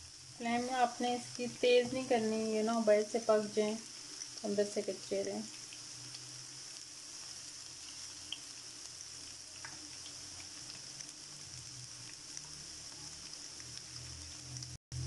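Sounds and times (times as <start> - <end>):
food sizzling in hot oil: 0.0 - 15.0
oil crackles and pops: 0.1 - 15.0.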